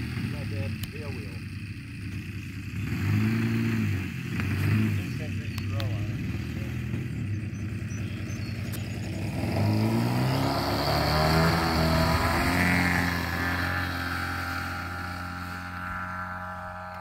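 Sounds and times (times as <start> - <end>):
model plane engine at full throttle: 0.0 - 17.0.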